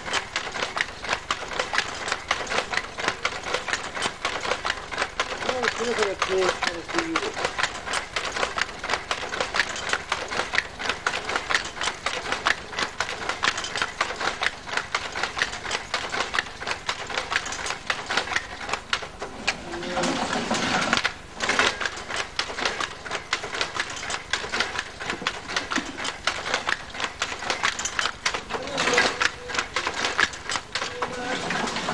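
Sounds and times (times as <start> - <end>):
weaving loom clattering: 0.0 - 31.9.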